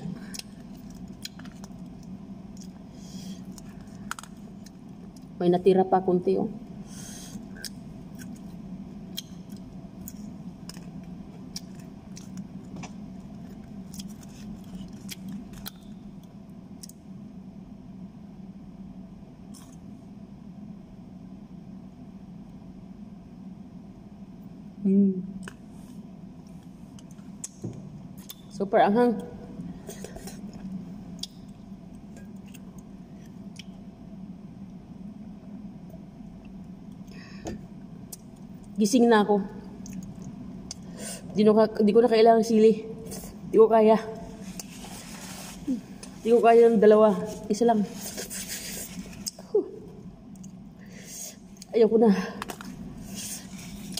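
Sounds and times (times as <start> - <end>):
low room hum: 0.0 - 53.9.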